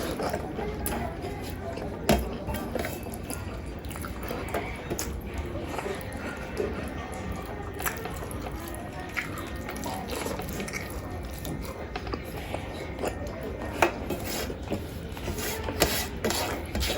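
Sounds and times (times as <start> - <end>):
wet eating sounds: 0.0 - 16.9.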